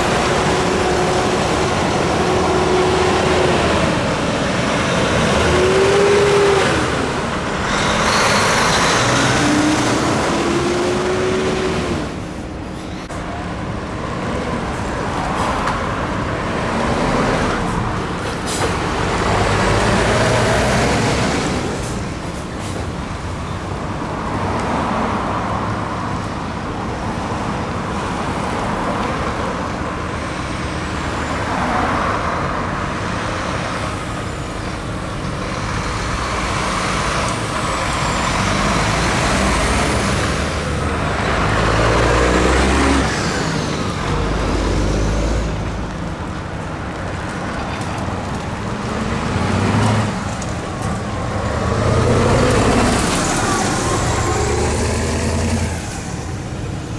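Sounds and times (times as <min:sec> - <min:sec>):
heavy trucks driving: 0:00.0 - 0:56.9.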